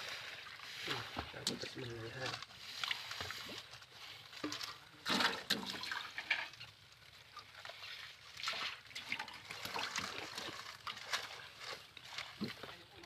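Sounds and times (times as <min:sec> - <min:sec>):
water splashing and running: 0:00.0 - 0:13.0.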